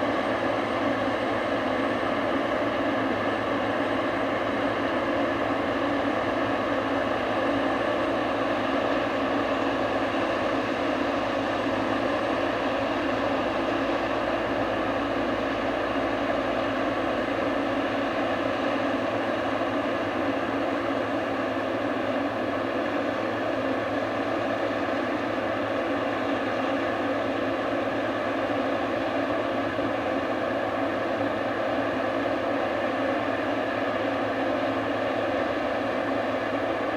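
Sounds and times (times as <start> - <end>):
farm machinery engine drone: 0.0 - 36.9.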